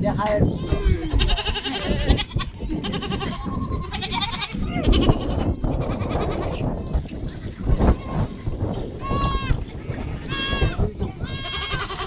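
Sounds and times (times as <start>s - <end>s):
goats bleating: 0.3s - 7.0s, 7.6s - 12.0s.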